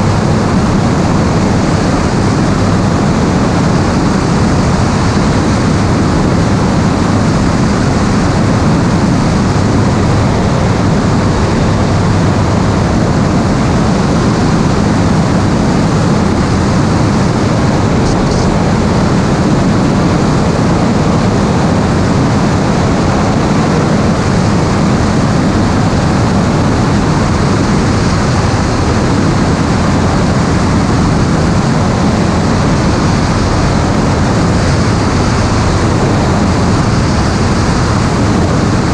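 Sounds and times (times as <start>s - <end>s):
aircraft engine and air drone: 0.0s - 38.9s.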